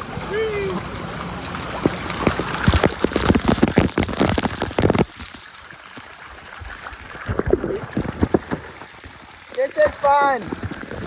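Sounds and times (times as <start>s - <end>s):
falling water splashing: 0.0s - 11.0s.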